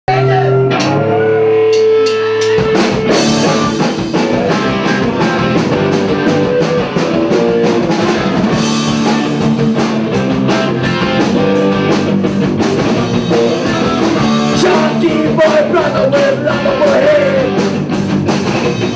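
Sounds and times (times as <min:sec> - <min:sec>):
live rock band playing: 0:00.1 - 0:18.9.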